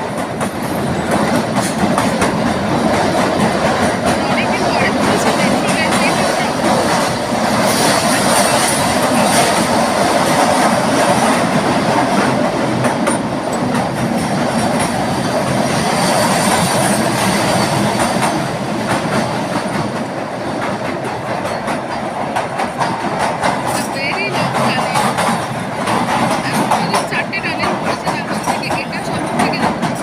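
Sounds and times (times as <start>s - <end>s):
train wheels clicking over rails: 0.0s - 30.0s.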